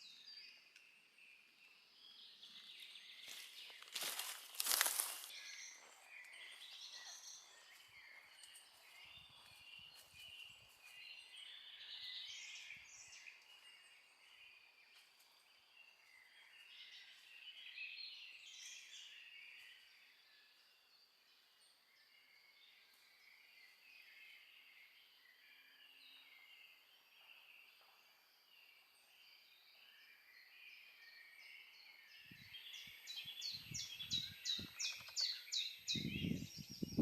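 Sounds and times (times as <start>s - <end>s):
songbirds chirping: 0.0s - 37.0s.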